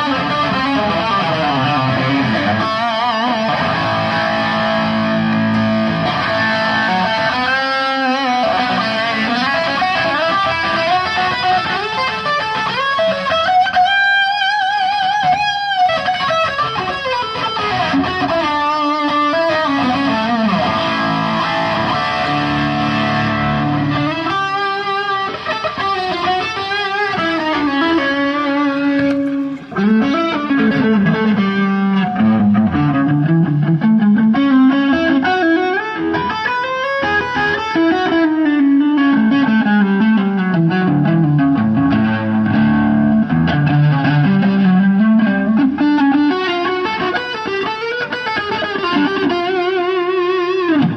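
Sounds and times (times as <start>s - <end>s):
band backing: 0.0s - 50.9s
distorted electric guitar lead: 0.0s - 50.9s.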